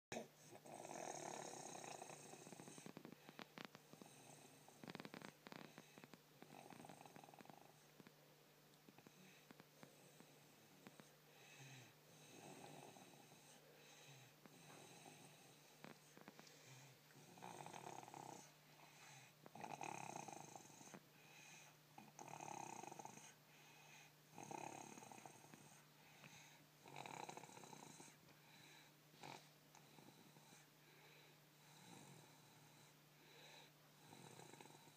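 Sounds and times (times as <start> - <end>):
rhythmic snoring: 0.1 - 8.1, 9.0 - 34.9.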